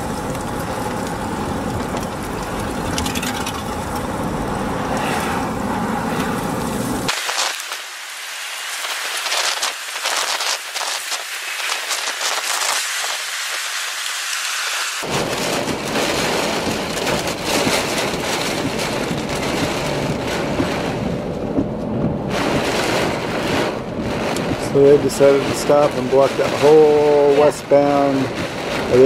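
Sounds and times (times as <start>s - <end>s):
heavy rain on a vehicle: 0.0s - 29.0s.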